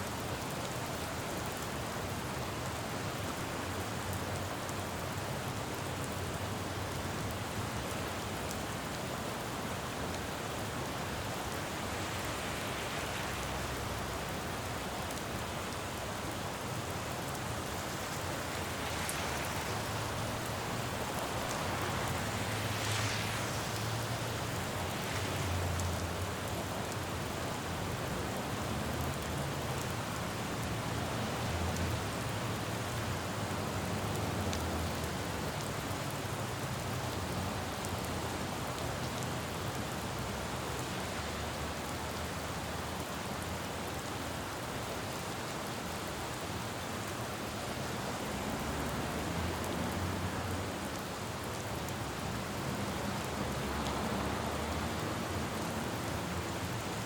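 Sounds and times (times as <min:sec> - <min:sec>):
low rumble of traffic: 0:00.0 - 0:57.0
rain falling on road: 0:00.0 - 0:57.0.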